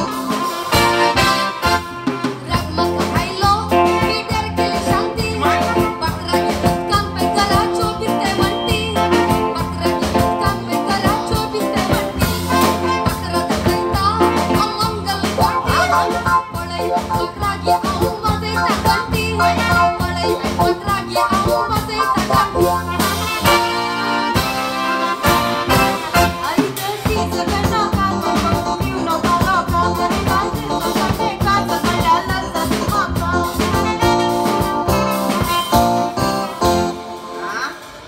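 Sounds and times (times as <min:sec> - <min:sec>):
live band music: 0:00.0 - 0:38.0.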